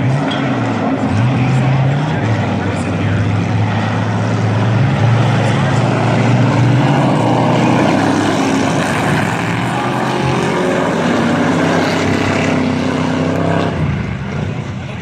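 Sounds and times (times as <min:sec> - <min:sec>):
race truck engines roaring: 0:00.0 - 0:15.0.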